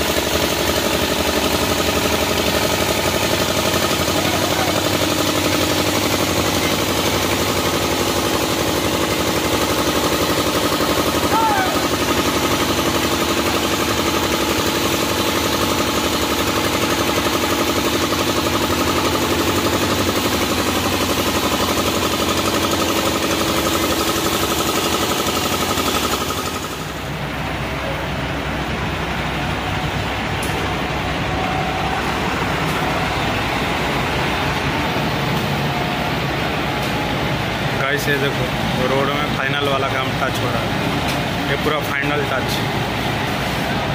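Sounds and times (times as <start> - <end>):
diesel engine running: 0.0 - 43.9
sprayer engine and pump hissing: 0.0 - 43.9.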